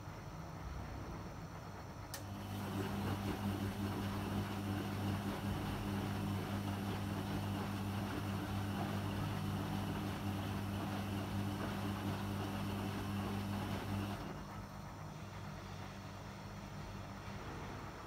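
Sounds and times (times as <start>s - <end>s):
washing machine hum: 0.0s - 18.0s
washing machine rushing noise: 0.9s - 18.0s.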